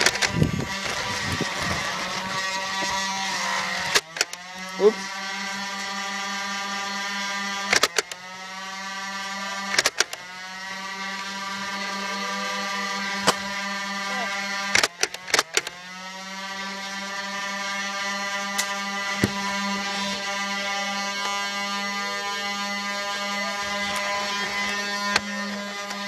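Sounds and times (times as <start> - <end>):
blaster motors whining: 0.0 - 26.0.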